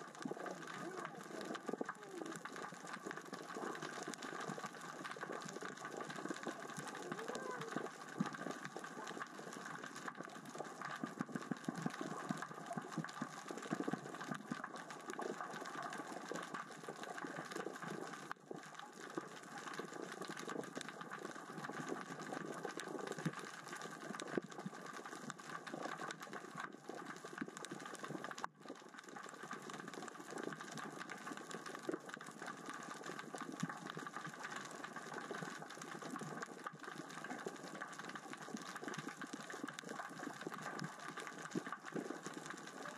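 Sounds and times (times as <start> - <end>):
underwater crackling clicks: 0.0 - 42.9.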